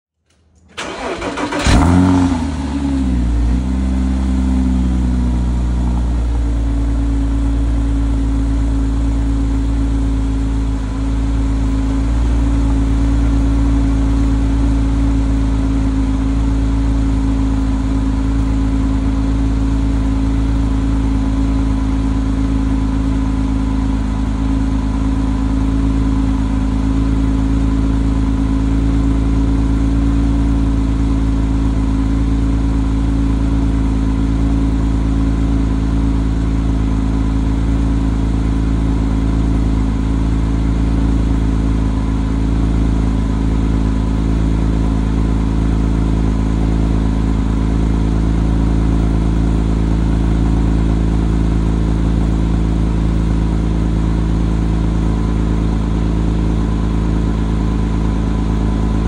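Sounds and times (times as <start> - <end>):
car engine cold idling: 0.3 - 59.0.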